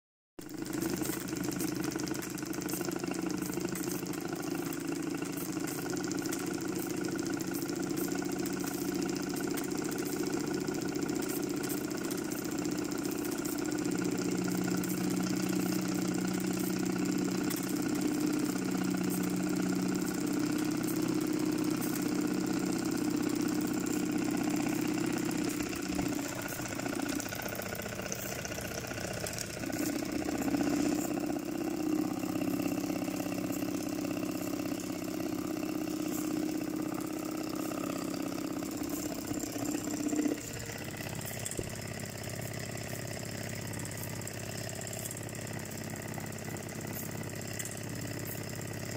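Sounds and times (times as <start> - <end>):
steam engine mechanical hum: 0.4 - 48.9.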